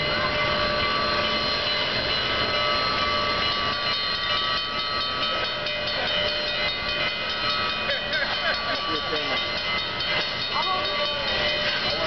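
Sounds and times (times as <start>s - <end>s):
steam locomotive chime whistle: 0.0s - 12.0s
steam locomotive chuffing beat: 0.0s - 12.0s.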